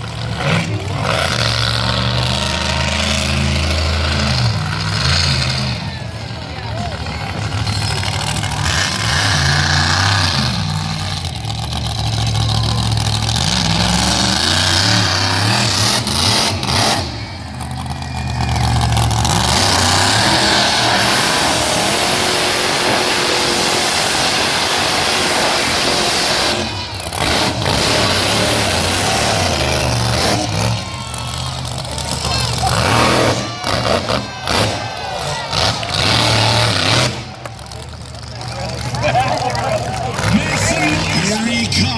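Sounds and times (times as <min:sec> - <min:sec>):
truck engine revving hard: 0:00.0 - 0:41.9.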